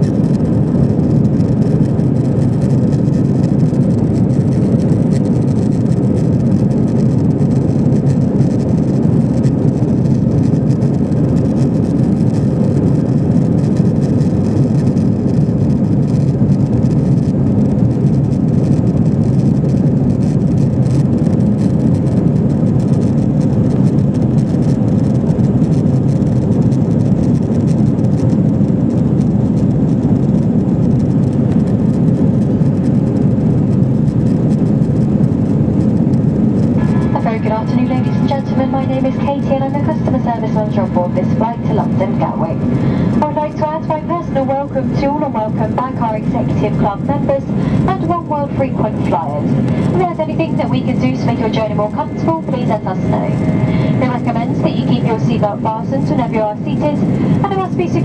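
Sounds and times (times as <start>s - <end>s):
jet engines roaring in cabin: 0.0s - 58.0s.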